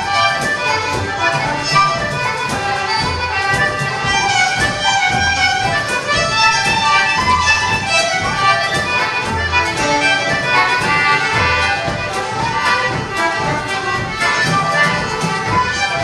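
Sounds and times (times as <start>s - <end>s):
concertina: 0.0s - 16.0s
fiddle: 0.0s - 16.0s
flute melody: 0.0s - 16.0s
frame drum beating: 0.0s - 16.0s.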